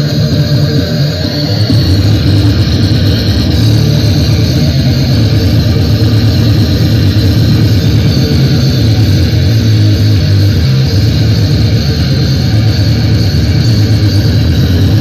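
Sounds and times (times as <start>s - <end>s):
loud deep bass from speakers: 0.0s - 15.0s.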